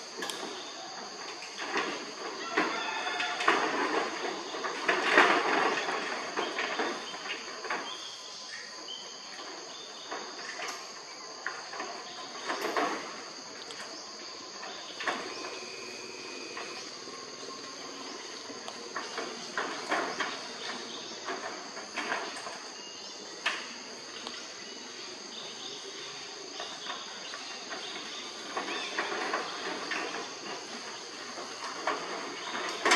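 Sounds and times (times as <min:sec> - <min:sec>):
high insect drone: 0:00.0 - 0:32.9
monkeys scrabbling on metal roof: 0:00.1 - 0:08.7, 0:09.3 - 0:24.6, 0:25.2 - 0:32.9.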